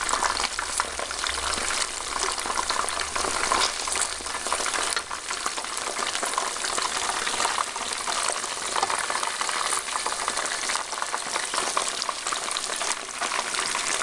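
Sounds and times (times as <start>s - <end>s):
chicken wings deep-frying in oil: 0.0s - 14.0s.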